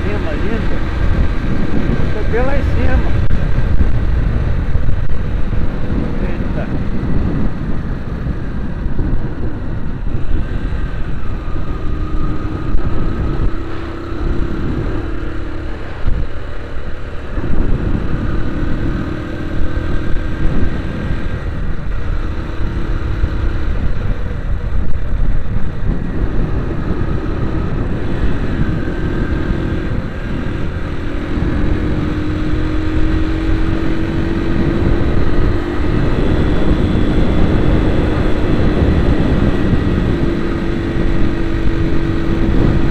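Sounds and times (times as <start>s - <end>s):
heavy low rumble: 0.0s - 42.9s
vehicle engine running: 0.0s - 42.9s.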